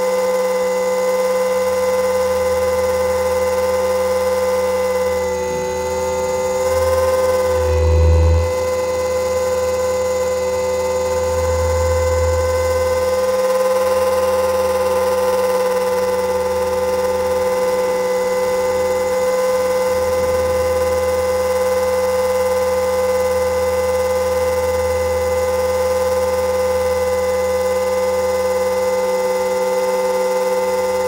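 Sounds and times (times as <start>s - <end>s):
rc helicopter motor whine: 0.0s - 31.0s.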